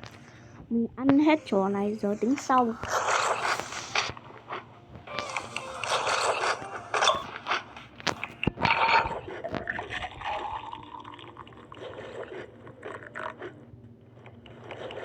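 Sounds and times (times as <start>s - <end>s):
person chewing: 2.8s - 15.0s.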